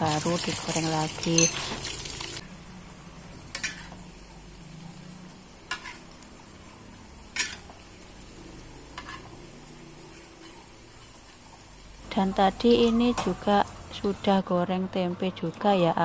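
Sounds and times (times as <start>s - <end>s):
patties sizzling in oil: 0.0s - 14.4s.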